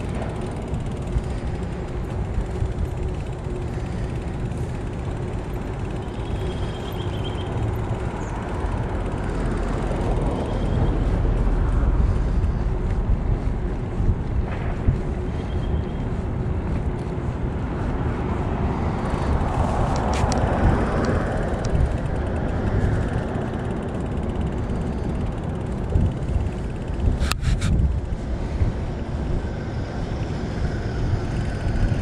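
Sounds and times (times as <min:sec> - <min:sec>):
bicycle tyre and road noise: 0:00.0 - 0:32.0
wind rushing over microphone: 0:00.0 - 0:32.0.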